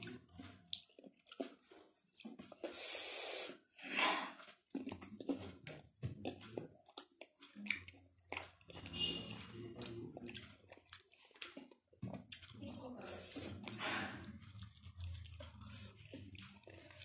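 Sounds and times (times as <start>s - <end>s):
wet chewing and lip smacks: 0.0s - 3.6s, 4.3s - 17.0s.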